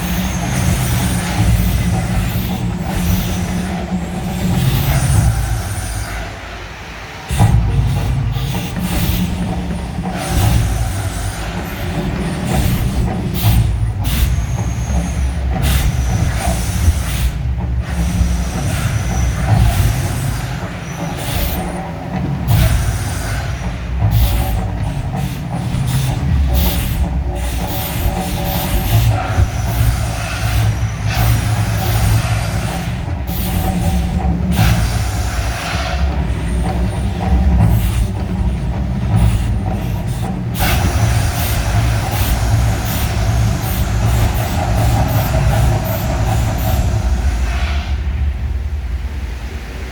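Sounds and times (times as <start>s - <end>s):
deep continuous rumble: 0.0s - 49.9s.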